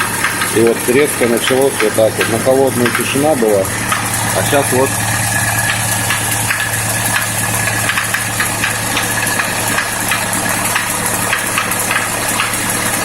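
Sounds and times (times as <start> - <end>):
diesel engine idling: 0.0 - 13.0
sharp engine knocks: 0.0 - 13.0.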